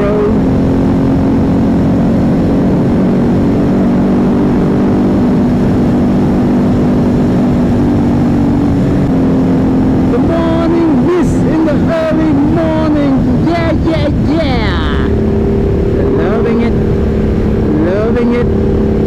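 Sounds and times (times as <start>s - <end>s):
motorcycle engine running: 0.0s - 19.0s
wind noise rumble: 0.0s - 19.0s.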